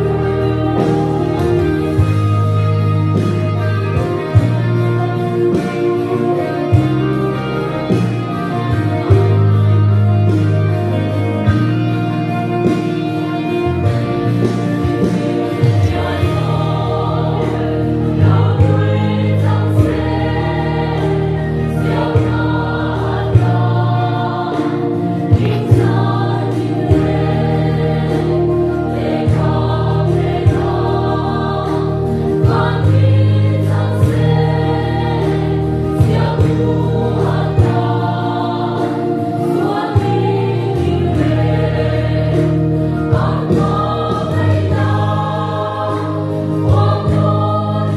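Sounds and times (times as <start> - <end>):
choir singing in harmony: 0.0 - 47.9
low bass notes: 0.0 - 47.9.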